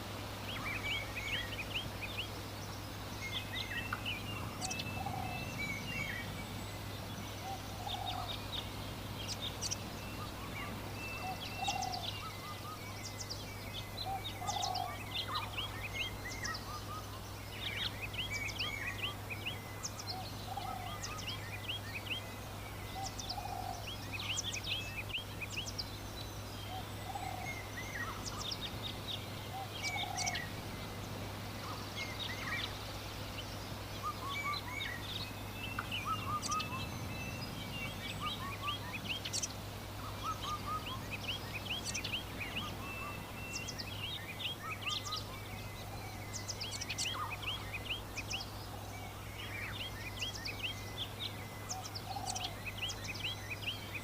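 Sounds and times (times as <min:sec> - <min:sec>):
lower bird calls: 0:00.0 - 0:54.0
small birds chirping: 0:00.0 - 0:54.0.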